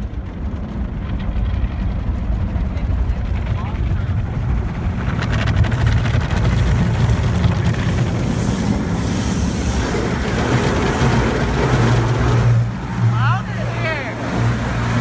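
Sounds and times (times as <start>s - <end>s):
car wash water spraying: 0.0s - 15.0s
low constant hum: 0.0s - 15.0s.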